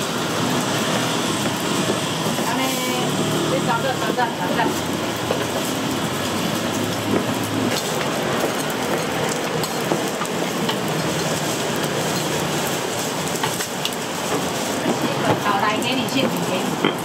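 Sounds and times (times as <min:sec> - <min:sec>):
dough frying on a griddle: 0:00.0 - 0:17.0.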